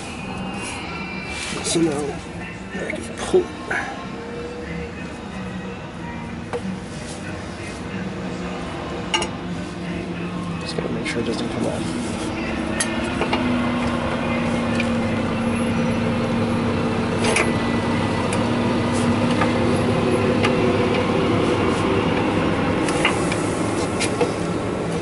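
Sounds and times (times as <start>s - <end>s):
mechanical hum and drone: 0.0s - 25.0s.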